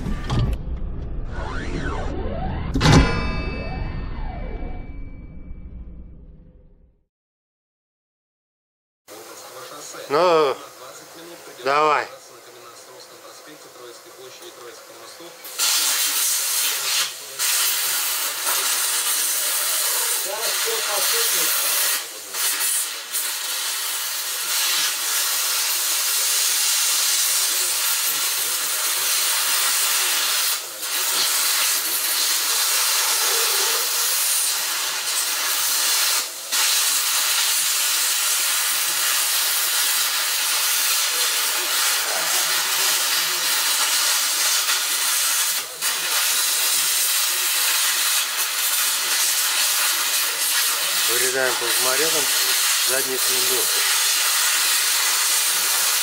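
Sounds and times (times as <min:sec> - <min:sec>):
plasma cutter hissing: 0:09.1 - 0:56.0.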